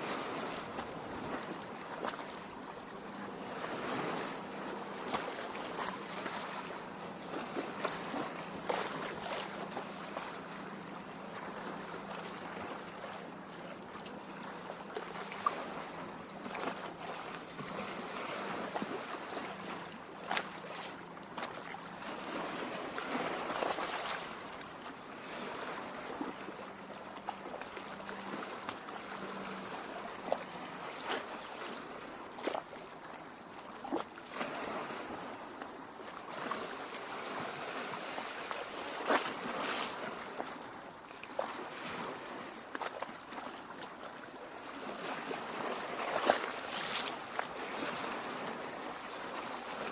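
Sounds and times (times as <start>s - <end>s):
waves lapping against shore: 0.0s - 49.9s.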